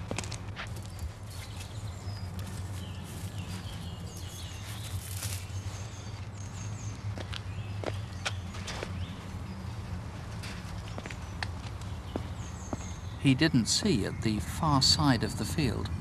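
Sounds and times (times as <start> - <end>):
footsteps on cinder path: 0.0 - 13.0
small birds chirping: 0.0 - 16.0.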